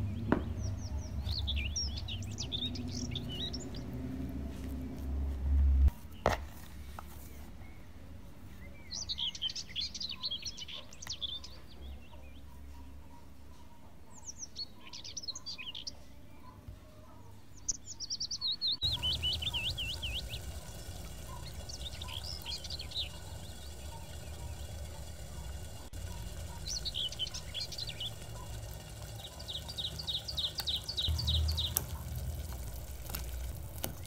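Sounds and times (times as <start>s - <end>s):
small birds chirping: 0.0s - 4.8s, 7.0s - 34.0s.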